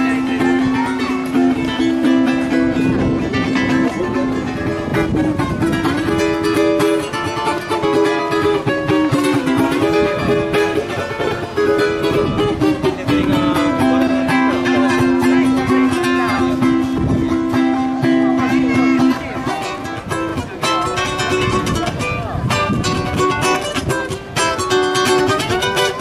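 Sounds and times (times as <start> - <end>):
plucked string music: 0.0 - 26.0.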